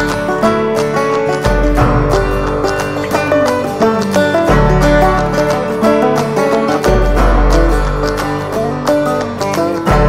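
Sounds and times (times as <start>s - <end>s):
instrumental music: 0.0s - 10.0s.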